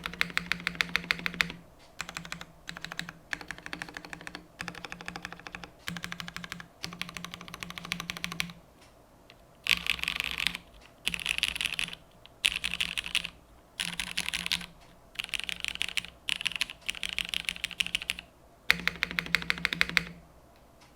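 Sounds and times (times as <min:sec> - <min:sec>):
mechanical keyboard typing: 0:00.0 - 0:08.6, 0:09.6 - 0:20.2.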